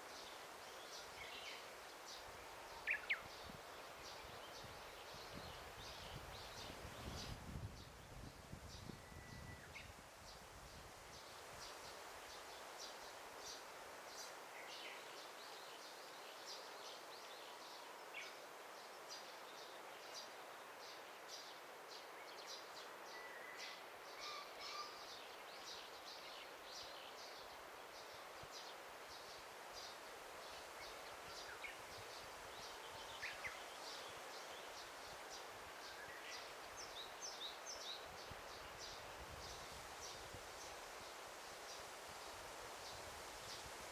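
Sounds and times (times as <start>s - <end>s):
soft steady hiss: 0.0s - 43.9s.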